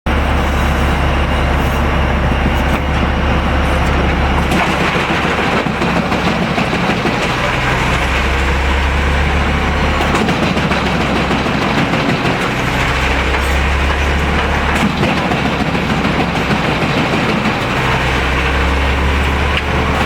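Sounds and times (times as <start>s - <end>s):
wood chipper engine hum: 0.1s - 20.0s
wood chipper grinding wood: 0.1s - 20.0s.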